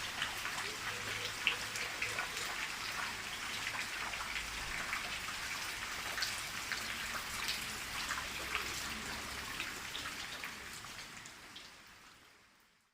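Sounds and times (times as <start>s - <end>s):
rain falling: 0.0s - 12.9s.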